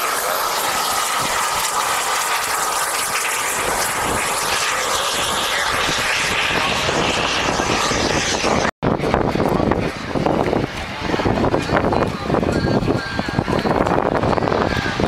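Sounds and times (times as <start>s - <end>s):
model jet engine whine: 0.0s - 15.0s.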